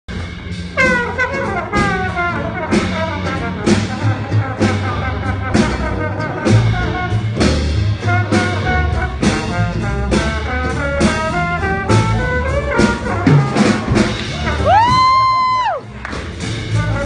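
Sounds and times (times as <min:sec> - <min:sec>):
bass: 0:00.0 - 0:17.0
brass and saxophone: 0:00.1 - 0:17.0
drum and cymbal hits: 0:00.1 - 0:17.0.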